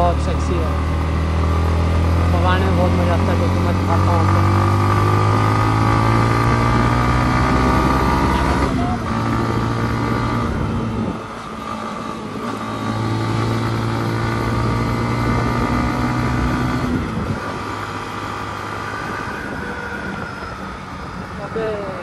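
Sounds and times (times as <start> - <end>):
motorcycle engine running: 0.0 - 22.0
wind and road rush: 0.0 - 22.0.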